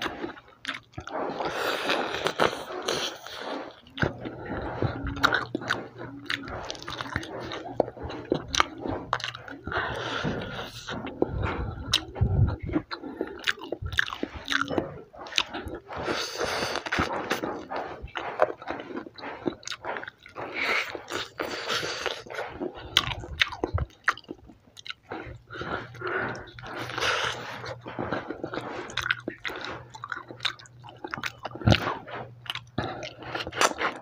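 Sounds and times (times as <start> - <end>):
chewing fried chicken: 0.0 - 34.0
wet mouth sounds: 0.0 - 34.0.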